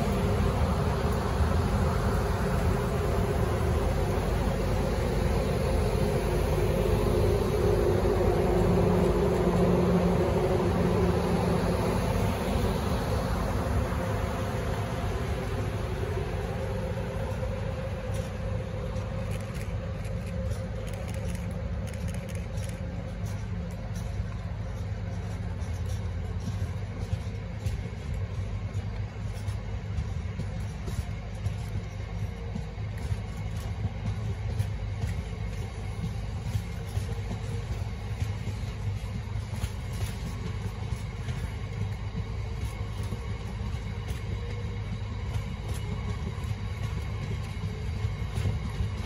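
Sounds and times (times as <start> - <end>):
locomotive hum: 0.0 - 49.0
train wheels rumbling on rail: 0.0 - 49.0.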